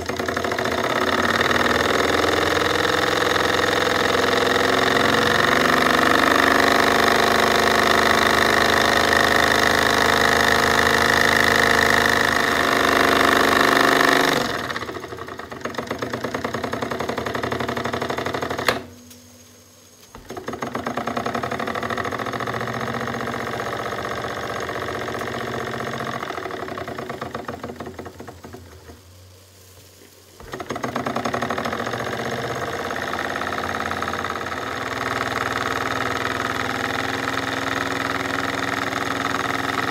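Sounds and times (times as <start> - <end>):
model steam engine chuffing: 0.0 - 18.9, 20.1 - 29.0, 30.4 - 39.9.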